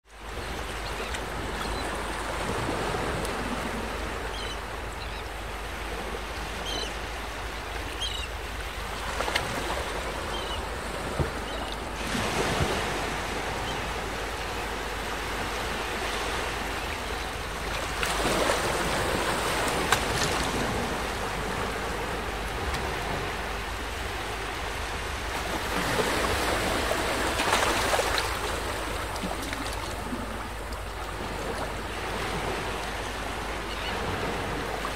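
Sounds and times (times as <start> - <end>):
waves washing onto beach: 0.0 - 34.9.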